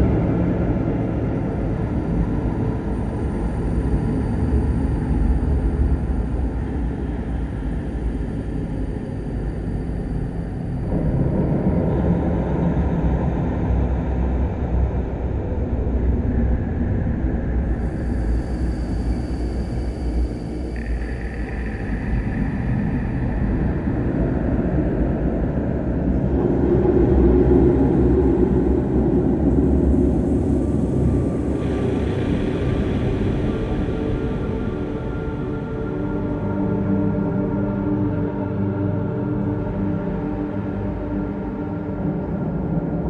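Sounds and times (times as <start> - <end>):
low rumbling drone: 0.0 - 43.0.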